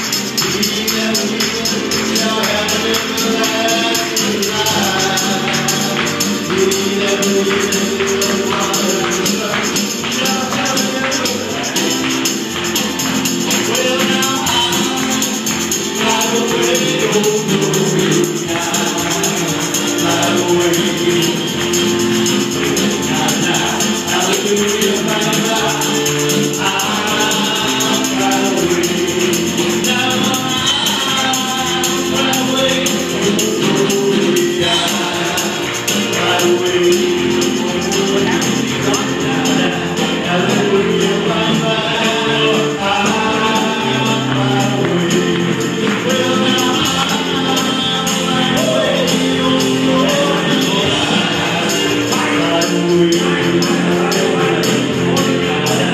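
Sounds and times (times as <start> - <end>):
group of voices singing: 0.0 - 55.9
keyboard and band playing: 0.0 - 55.9
tambourine shaken rhythmically: 0.0 - 55.9.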